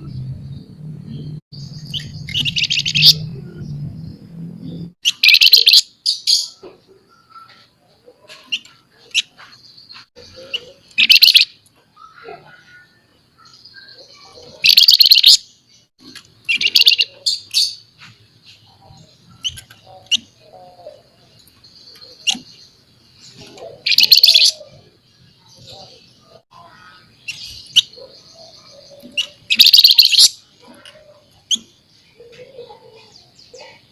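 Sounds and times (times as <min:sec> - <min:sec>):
bird calls and high notes: 0:00.0 - 0:33.9
songbird chattering song: 0:00.0 - 0:33.9.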